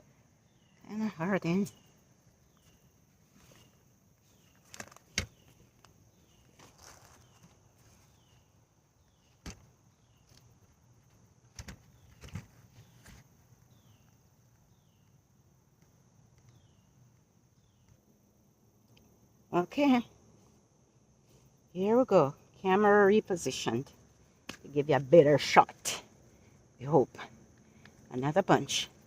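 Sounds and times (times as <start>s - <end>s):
insect drone: 0.0s - 29.0s.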